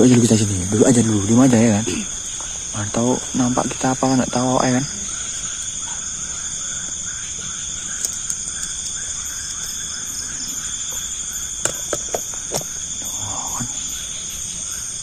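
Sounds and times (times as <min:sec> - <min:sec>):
lower pulsing insect call: 0:00.0 - 0:15.0
night insects chirring: 0:00.0 - 0:15.0.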